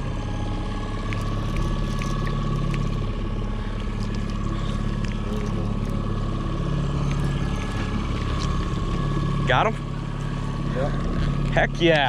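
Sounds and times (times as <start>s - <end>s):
outboard motor running: 0.0s - 12.0s
steady whine: 0.0s - 12.0s.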